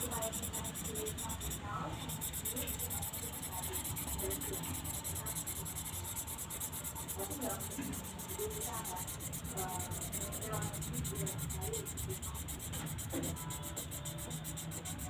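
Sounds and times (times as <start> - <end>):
marker rubbing on paper: 0.0 - 15.0.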